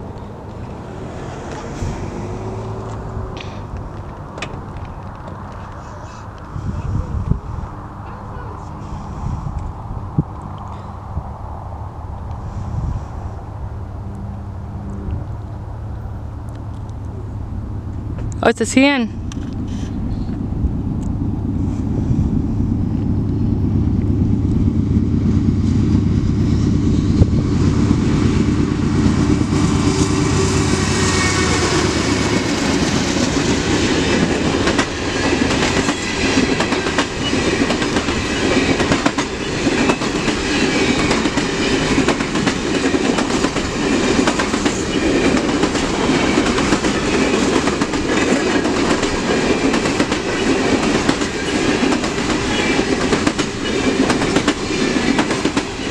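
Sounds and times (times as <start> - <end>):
train wheels clattering on rail joints: 0.0 - 10.9, 19.2 - 55.9
diesel locomotive engines droning: 0.0 - 55.9.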